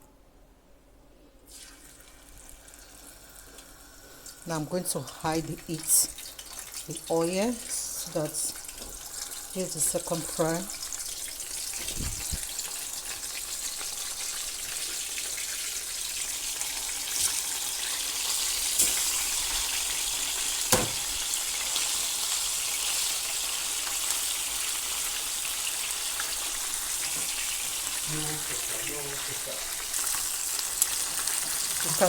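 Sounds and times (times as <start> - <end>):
chicken wings sizzling in oil: 1.6 - 32.0.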